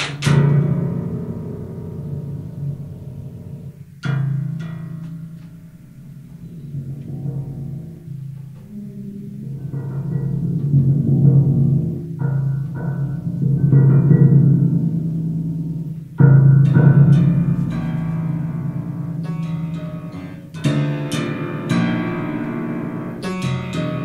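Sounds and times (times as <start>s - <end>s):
instrumental music with deep tones: 0.0s - 24.0s.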